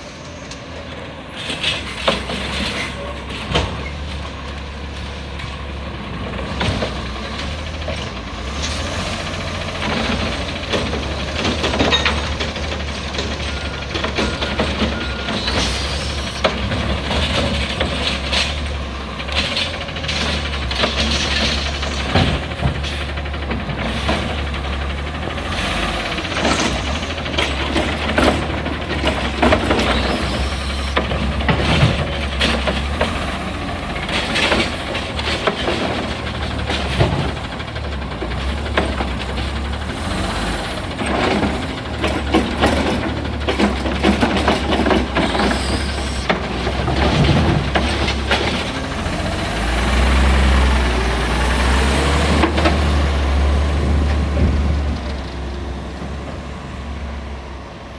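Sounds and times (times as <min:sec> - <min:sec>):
lifting arm and carts clanking: 0:00.0 - 0:56.6
garbage truck engine running: 0:00.1 - 0:57.9.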